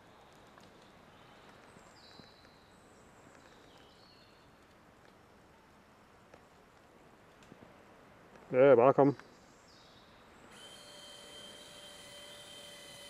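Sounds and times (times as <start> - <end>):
faint woodland ambience: 0.0 - 13.0.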